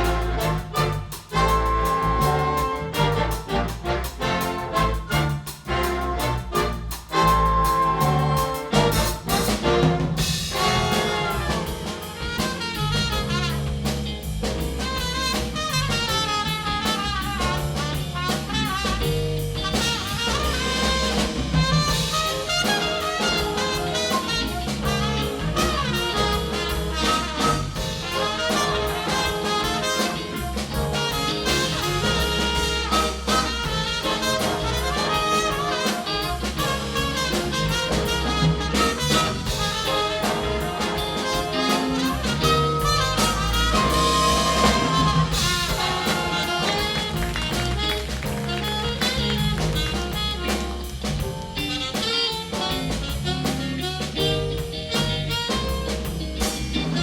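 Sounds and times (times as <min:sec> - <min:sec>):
big band playing jazz: 0:00.0 - 0:57.0.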